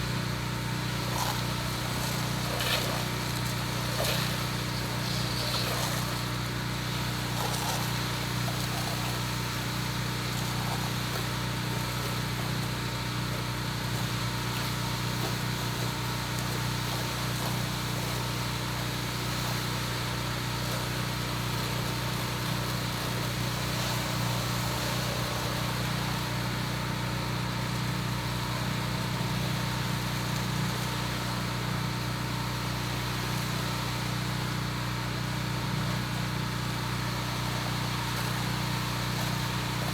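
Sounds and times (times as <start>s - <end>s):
pressure washer engine hum: 0.0s - 39.9s.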